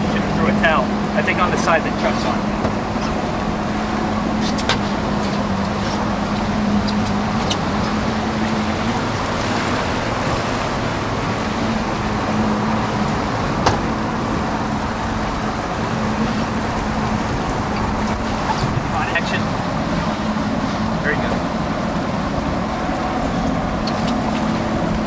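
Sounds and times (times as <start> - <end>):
boat motor humming: 0.0 - 25.0
wind and water rushing: 0.0 - 25.0.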